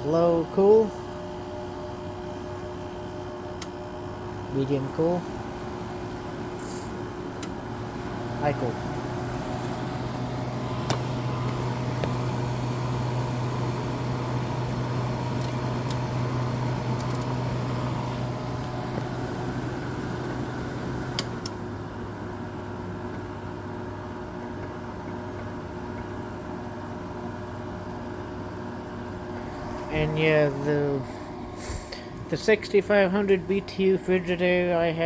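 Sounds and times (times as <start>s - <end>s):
air conditioner humming: 0.0s - 35.0s.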